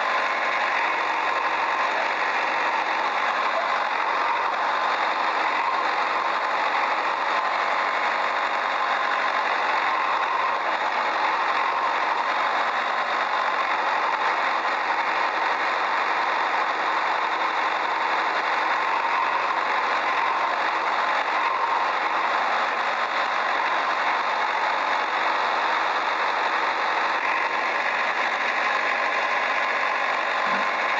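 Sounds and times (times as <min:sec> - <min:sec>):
motor running steadily: 0:00.0 - 0:30.9.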